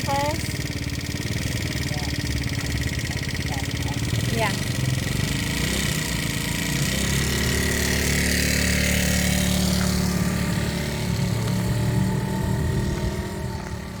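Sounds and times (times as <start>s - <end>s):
motorbike engine running: 0.0s - 14.0s.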